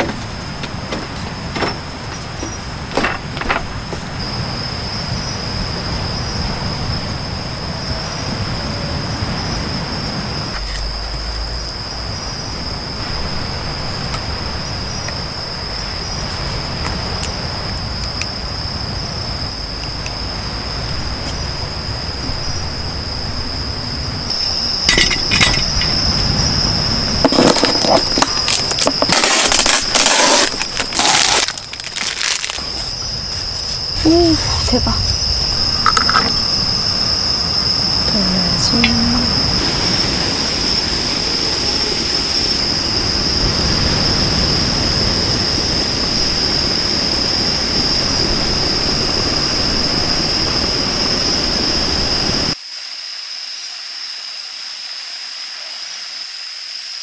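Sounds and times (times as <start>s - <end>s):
insects shrilling: 0.5s - 56.2s.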